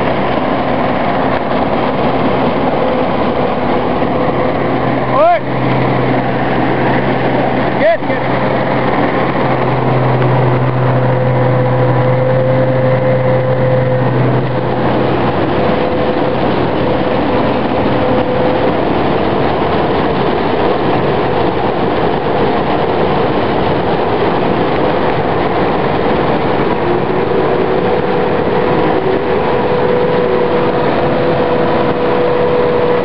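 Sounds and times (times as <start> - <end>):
combine harvester engine and threshing: 0.0 - 33.0
low hum: 0.0 - 33.0.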